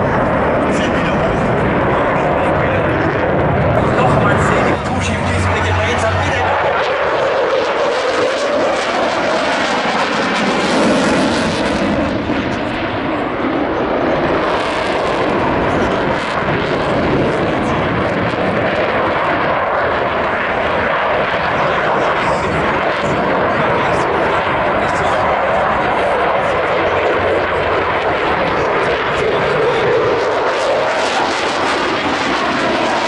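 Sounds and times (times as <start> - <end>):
fighter jet engines roaring: 0.0 - 33.0.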